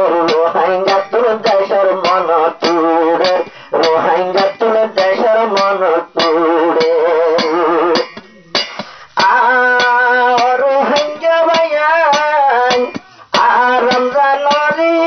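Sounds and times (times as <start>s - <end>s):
man singing with vibrato: 0.0s - 15.0s
plucked strings and beat: 0.0s - 15.0s.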